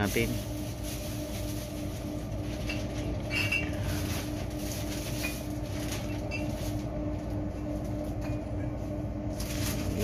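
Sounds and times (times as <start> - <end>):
low machinery hum: 0.0 - 10.0.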